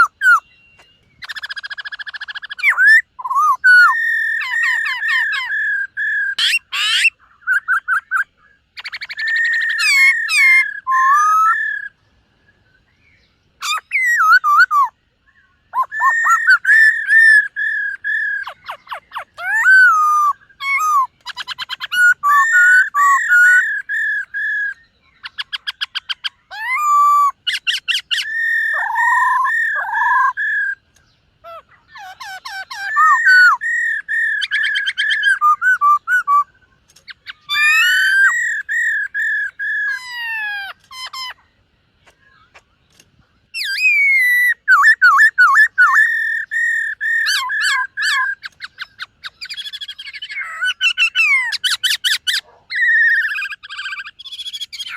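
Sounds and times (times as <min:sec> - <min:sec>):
bird singing whistled song: 0:00.0 - 0:54.9.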